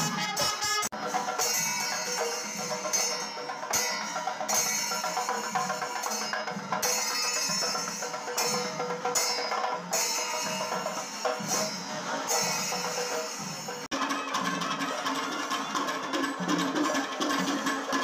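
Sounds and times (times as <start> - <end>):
drums playing: 0.0 - 18.0
hand cymbals clashing: 0.0 - 18.0.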